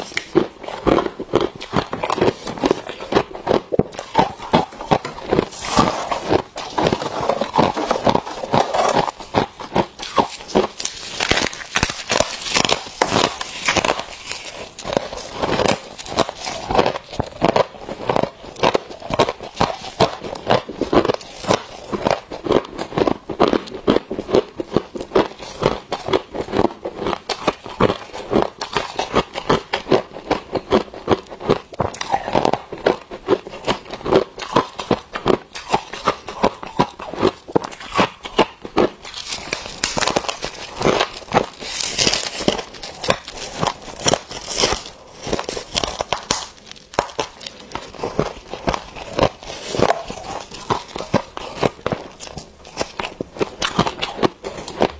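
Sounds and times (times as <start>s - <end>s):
frost being bitten and chewed: 0.0s - 54.9s.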